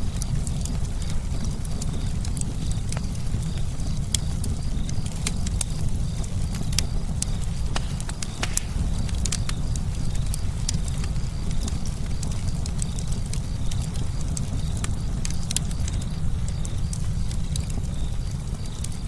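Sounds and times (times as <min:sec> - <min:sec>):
campfire crackling and popping: 0:00.0 - 0:19.0
low rumble of flames: 0:00.0 - 0:19.0.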